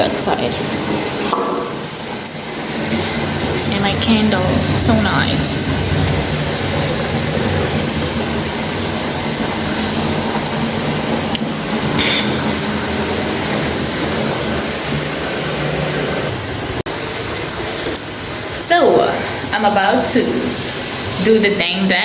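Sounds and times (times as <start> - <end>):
tap water running into bathtub: 0.0 - 22.0.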